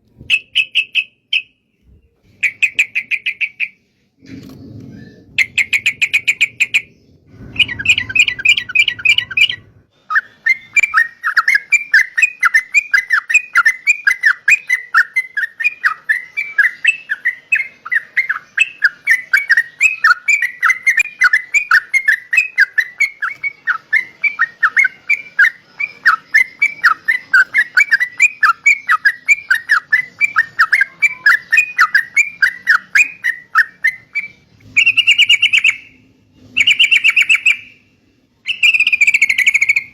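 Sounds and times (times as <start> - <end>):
bird singing rapid notes: 5.0 - 39.9.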